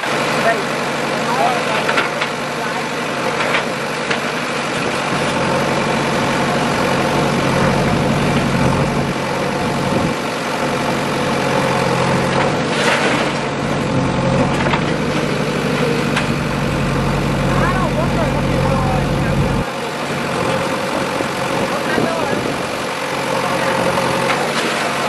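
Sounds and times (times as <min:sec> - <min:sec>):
backhoe digging and dumping soil: 0:00.0 - 0:25.0
diesel engine running: 0:00.0 - 0:25.0.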